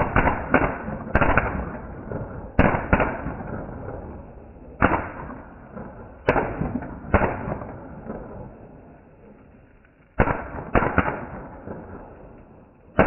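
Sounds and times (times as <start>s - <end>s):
firework bangs with echo: 0.0s - 8.9s, 10.1s - 13.0s.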